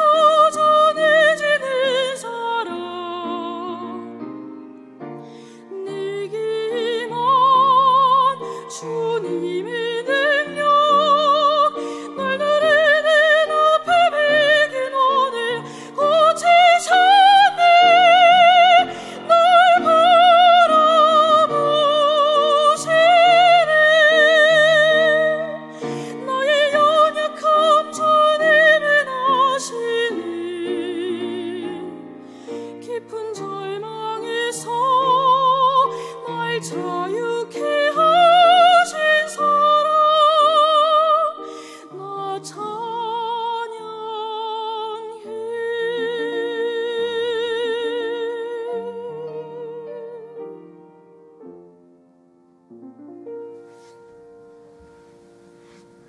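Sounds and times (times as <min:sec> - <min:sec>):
soprano singing operatic: 0:00.0 - 0:04.6, 0:05.4 - 0:50.7
piano accompaniment: 0:00.0 - 0:56.0.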